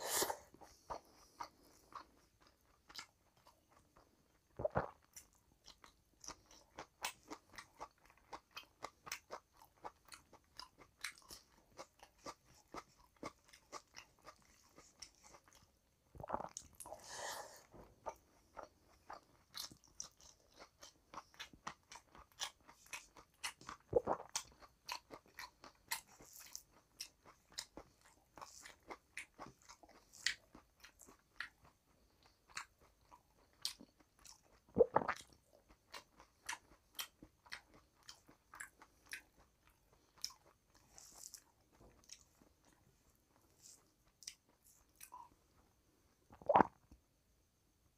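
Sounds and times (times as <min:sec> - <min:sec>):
man chewing food: 0:00.0 - 0:47.0.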